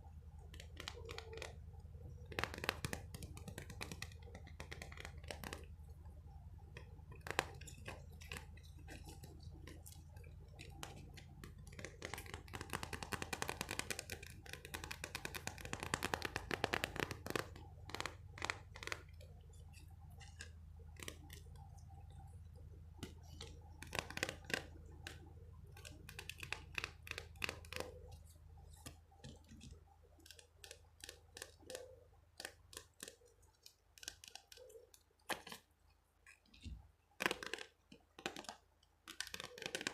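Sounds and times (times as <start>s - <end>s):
object clicking and crackling: 0.4s - 39.9s.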